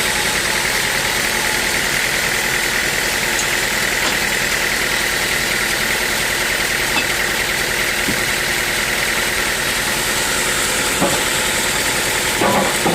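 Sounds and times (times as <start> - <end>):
sawmill machine drone: 0.0 - 12.9.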